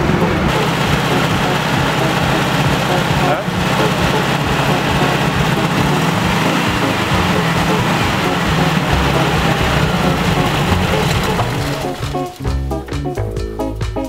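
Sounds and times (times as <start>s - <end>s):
van engine running: 0.0s - 12.7s.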